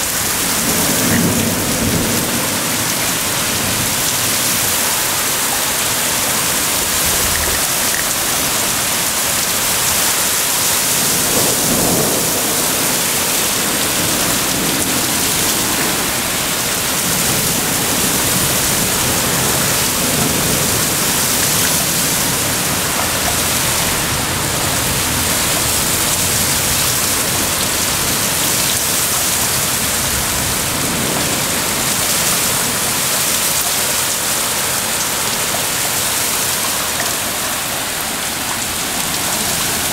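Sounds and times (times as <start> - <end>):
heavy rain pounding: 0.0 - 39.9.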